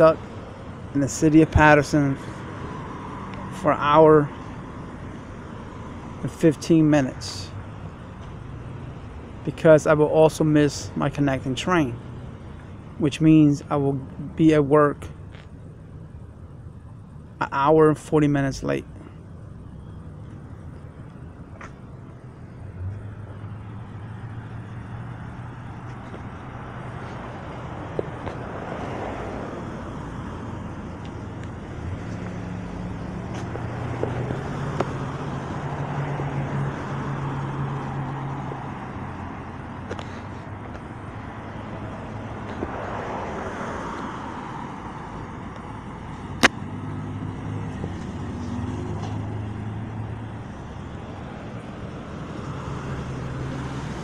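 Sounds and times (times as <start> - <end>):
cars passing by: 0.0 - 54.0.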